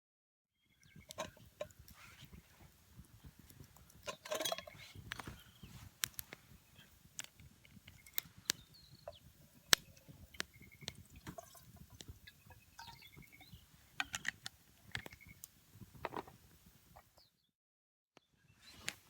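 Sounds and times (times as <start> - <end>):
wood fire crackling: 0.8 - 17.2.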